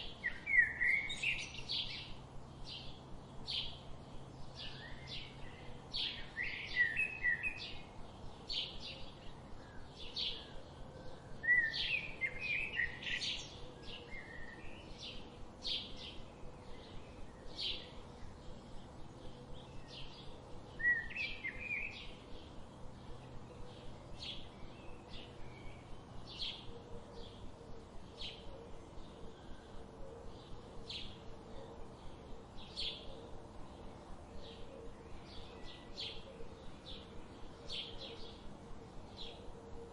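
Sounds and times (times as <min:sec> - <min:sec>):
bird warbled song: 0:00.0 - 0:39.9.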